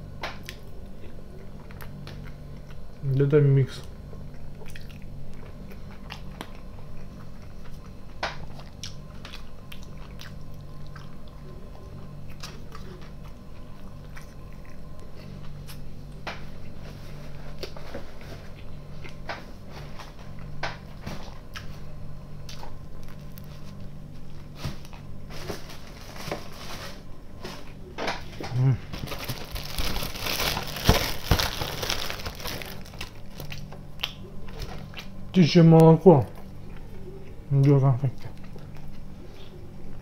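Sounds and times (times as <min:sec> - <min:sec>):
man chewing salad: 0:00.4 - 0:03.1, 0:03.8 - 0:25.2, 0:29.0 - 0:35.3, 0:36.2 - 0:40.0.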